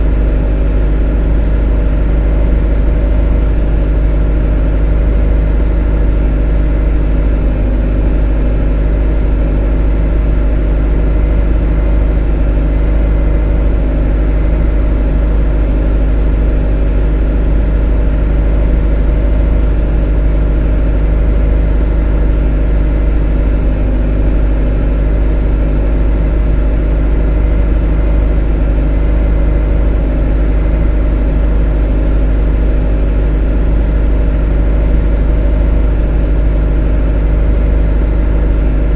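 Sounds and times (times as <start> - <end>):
motor running steadily: 0.0 - 38.9.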